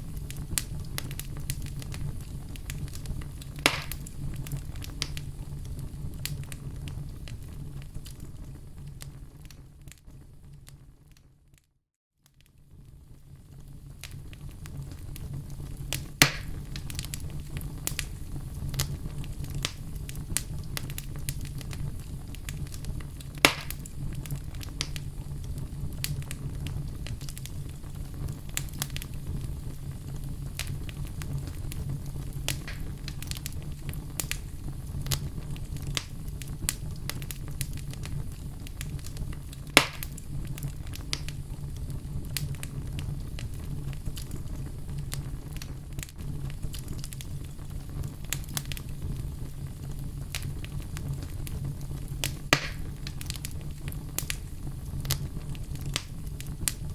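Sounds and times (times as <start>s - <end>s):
fire popping: 0.0s - 11.3s, 12.2s - 56.9s
low rumble of flames: 0.0s - 11.6s, 12.2s - 56.9s
wood fire crackling: 0.0s - 11.6s, 12.2s - 56.9s.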